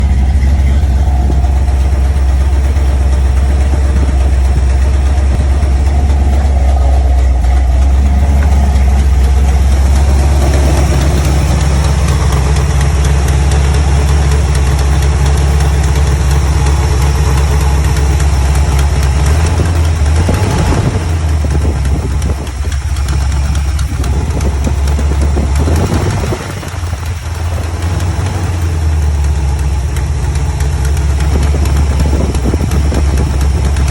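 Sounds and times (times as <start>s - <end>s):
engine idling with knocking: 0.0s - 33.9s.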